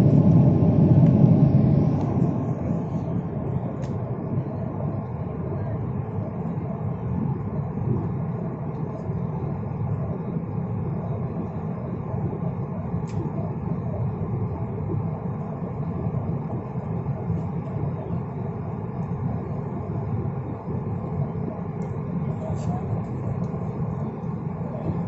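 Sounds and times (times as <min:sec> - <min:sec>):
jet cabin engine noise: 0:00.0 - 0:25.0.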